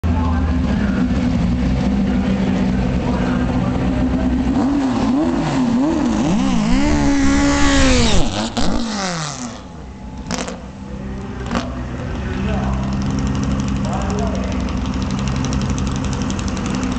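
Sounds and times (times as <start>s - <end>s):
drag car engine revving: 0.1s - 16.9s.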